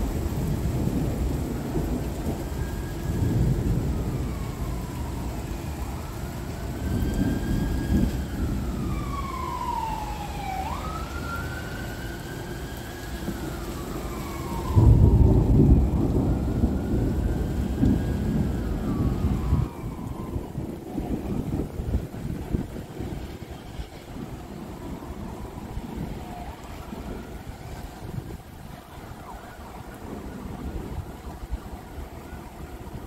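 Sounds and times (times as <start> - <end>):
distant siren wailing: 0.0 - 33.0
gentle rain: 0.0 - 33.0
thunder rumbling: 0.0 - 33.0.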